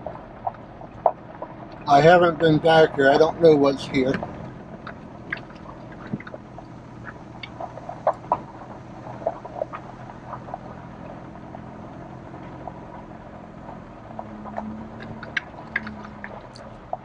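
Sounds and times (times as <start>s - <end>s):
clicks and knocks on rough track: 0.0s - 17.0s
vehicle engine hum: 0.0s - 17.0s.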